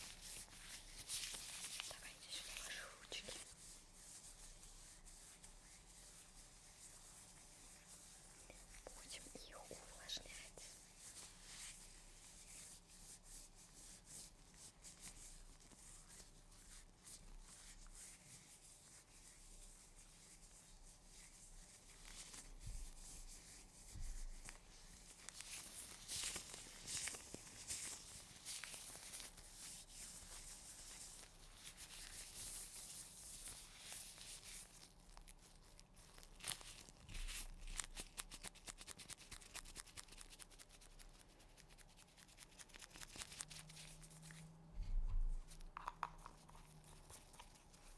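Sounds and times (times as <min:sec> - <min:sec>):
gloves crackling and rustling: 0:00.0 - 0:08.9, 0:10.5 - 0:47.9.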